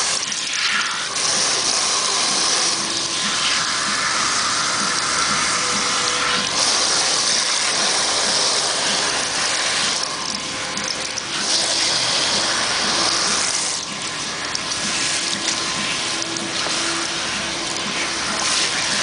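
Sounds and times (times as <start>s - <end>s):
water spray rinsing hair: 0.0s - 19.0s.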